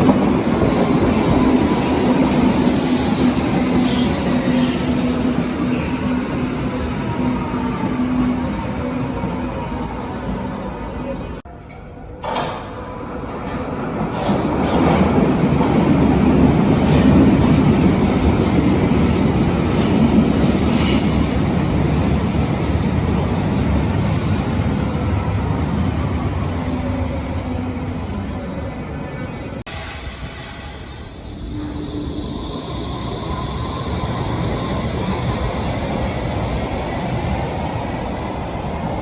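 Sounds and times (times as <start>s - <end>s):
train rumbling on track: 0.0s - 39.0s.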